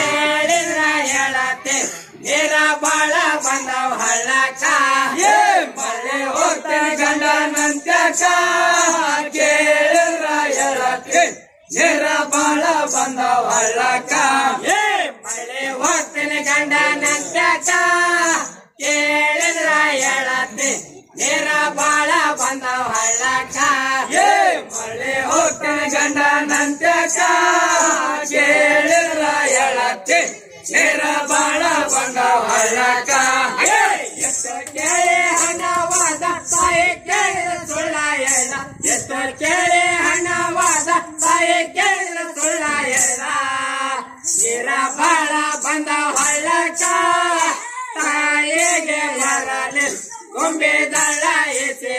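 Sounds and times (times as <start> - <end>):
men singing in chorus: 0.0 - 51.9.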